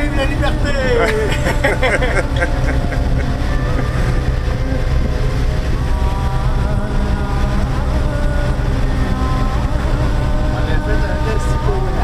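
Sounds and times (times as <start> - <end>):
boat diesel engine rumbling: 0.0 - 12.0
wind buffeting microphone: 0.0 - 12.0.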